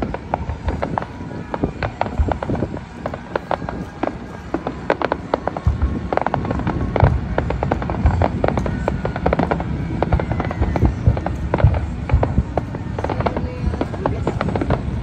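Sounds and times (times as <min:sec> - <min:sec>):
deep firework booms: 0:00.0 - 0:15.0
fireworks crackling and popping: 0:00.0 - 0:15.0.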